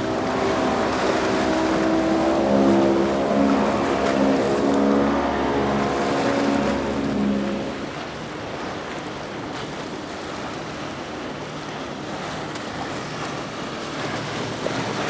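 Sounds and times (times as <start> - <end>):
outboard motor droning: 0.0 - 15.0
water rushing against hull: 0.0 - 15.0.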